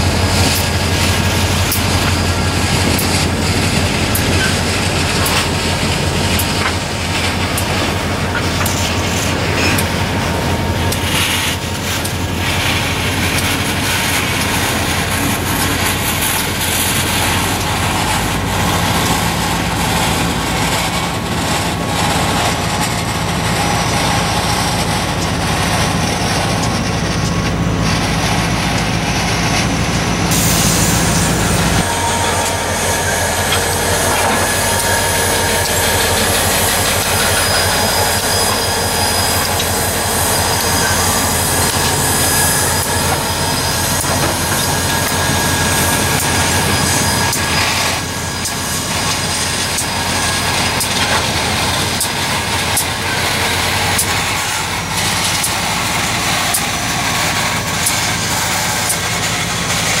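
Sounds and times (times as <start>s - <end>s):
diesel locomotive engines: 0.0s - 60.0s
train wheels clattering on rails: 0.0s - 60.0s.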